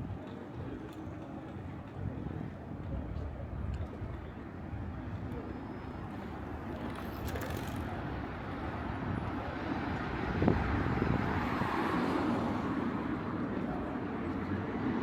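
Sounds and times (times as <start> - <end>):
city street ambience: 0.0 - 15.0.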